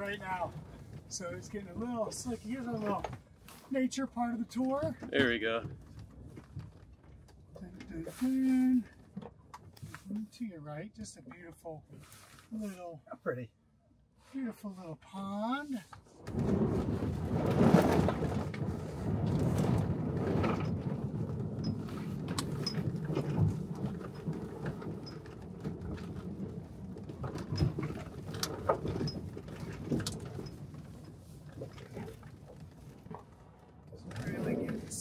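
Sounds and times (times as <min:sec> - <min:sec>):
tyres and suspension rumble: 0:00.0 - 0:10.5, 0:16.2 - 0:35.0.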